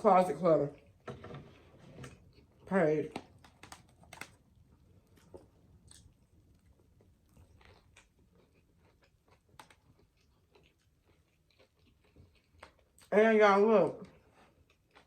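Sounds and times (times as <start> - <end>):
chewing food: 0.6 - 13.4, 14.0 - 15.0.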